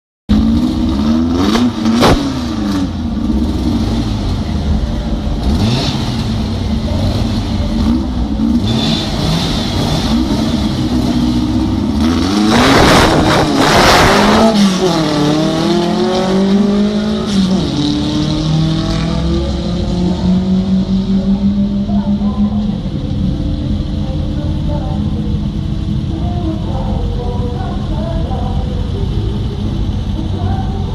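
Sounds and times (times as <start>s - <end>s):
drag car engine revving: 0.3s - 30.9s.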